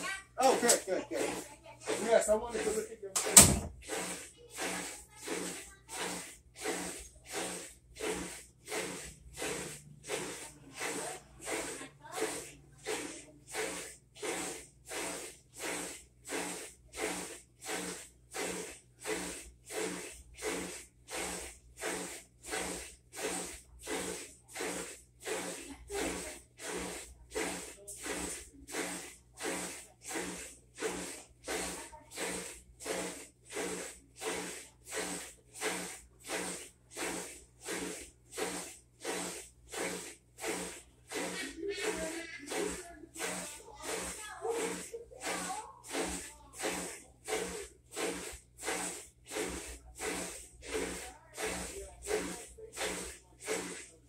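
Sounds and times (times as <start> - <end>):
washing machine agitating: 0.0 - 54.0.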